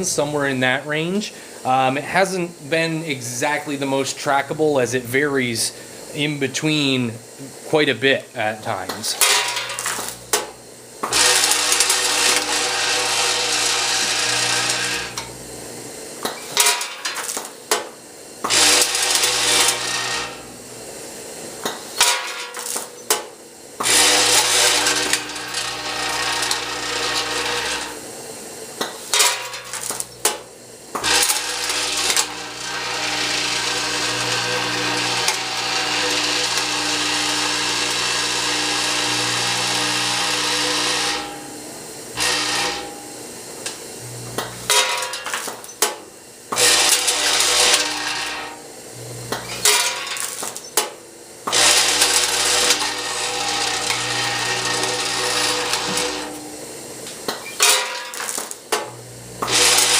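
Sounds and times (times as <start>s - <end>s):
vibratory feed pans buzzing: 0.0s - 59.9s.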